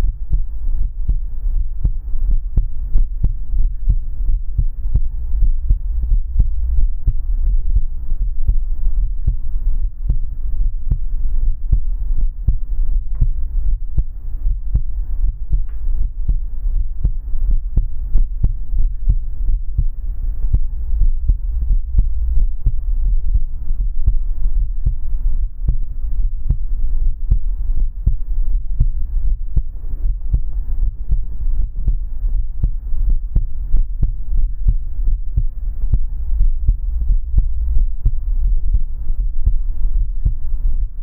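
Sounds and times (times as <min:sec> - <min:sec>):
heartbeat thumps: 0:00.0 - 0:41.0
low steady hum: 0:00.0 - 0:41.0.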